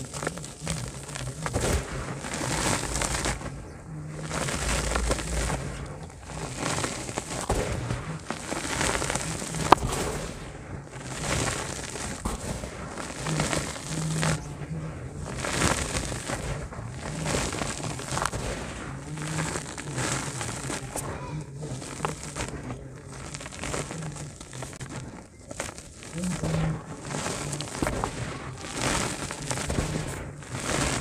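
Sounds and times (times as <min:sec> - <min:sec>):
dry dirt crackling in hands: 0:00.0 - 0:31.0
loose dirt pouring with sandy hiss: 0:00.0 - 0:31.0.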